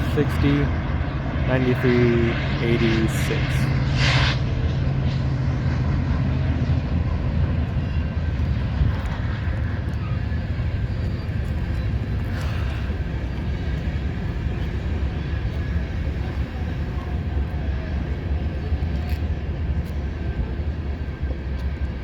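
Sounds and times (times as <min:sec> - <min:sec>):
train rumbling over bridge: 0:00.0 - 0:22.0.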